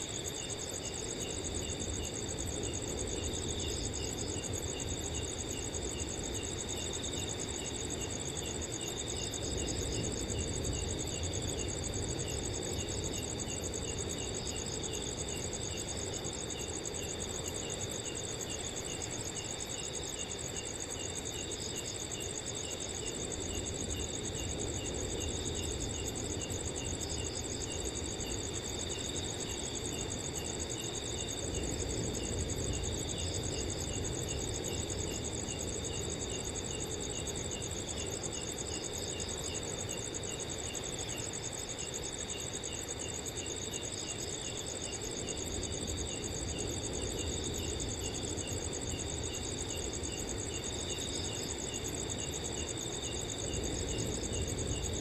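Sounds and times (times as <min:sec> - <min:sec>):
crickets chirping: 0:00.0 - 0:55.0
low rush of wind: 0:00.0 - 0:55.0.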